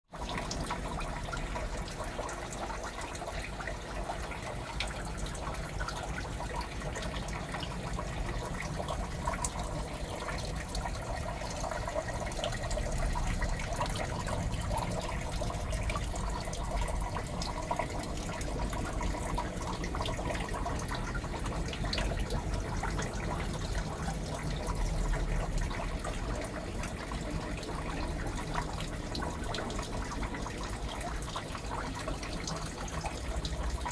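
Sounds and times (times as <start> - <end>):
aquarium water bubbling: 0.1 - 33.9.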